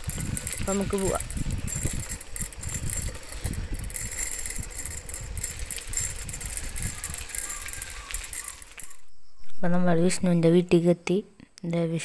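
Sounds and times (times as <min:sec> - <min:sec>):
wind on microphone: 0:00.0 - 0:10.4
bicycle tyres rolling on dirt: 0:00.0 - 0:10.5.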